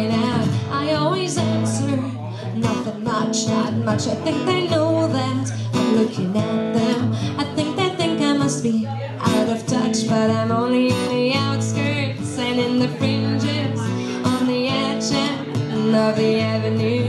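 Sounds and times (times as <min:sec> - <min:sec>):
acoustic guitar strumming: 0:00.0 - 0:17.0
woman singing: 0:00.0 - 0:17.0.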